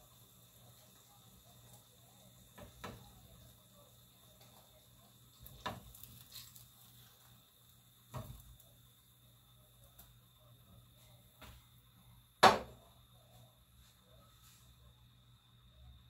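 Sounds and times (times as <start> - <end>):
oil sizzling: 0.0 - 15.8.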